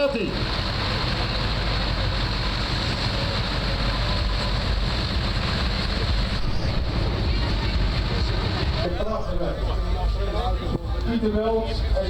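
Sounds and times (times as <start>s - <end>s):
wind buffeting microphone: 0.4s - 11.0s.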